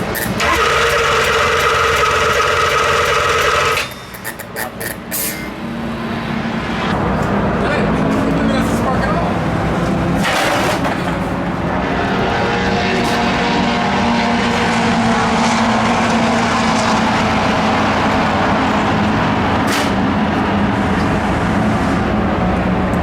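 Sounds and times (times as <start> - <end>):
racing car engines droning: 0.0 - 23.0.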